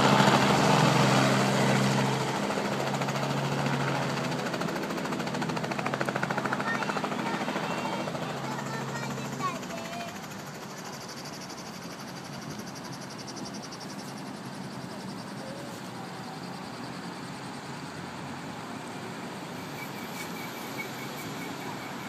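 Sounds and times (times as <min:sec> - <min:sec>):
distant traffic hiss and rumble: 0:00.0 - 0:22.0.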